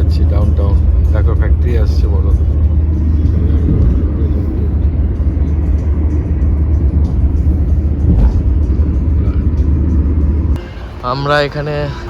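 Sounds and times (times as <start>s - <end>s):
car road rumble from inside: 0.0s - 11.5s.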